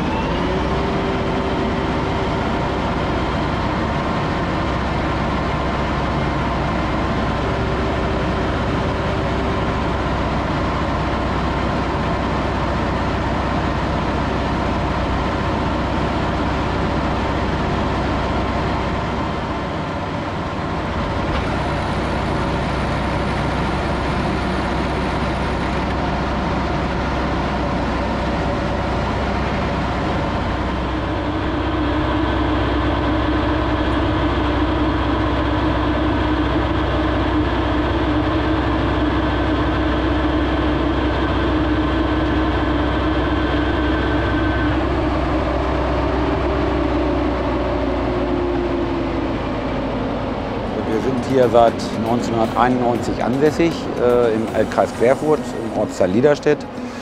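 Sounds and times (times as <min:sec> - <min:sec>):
high machine whine: 0:00.0 - 0:57.0
tractor engine drone: 0:00.0 - 0:57.0.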